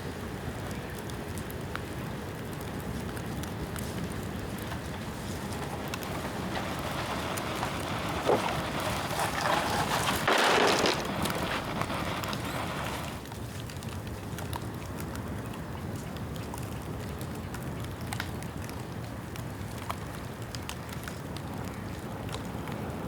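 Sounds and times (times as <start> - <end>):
bonfire crackling and popping: 0.1 - 22.9.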